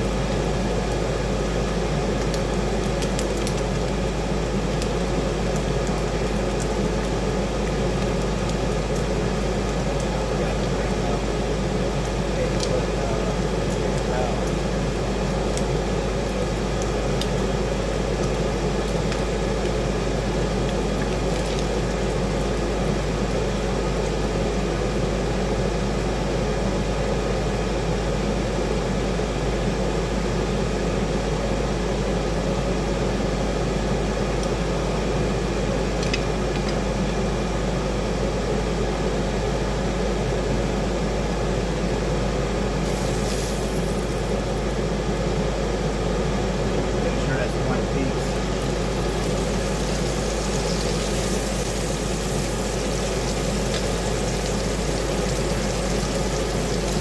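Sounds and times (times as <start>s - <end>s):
fan whir with low hum: 0.0s - 57.0s.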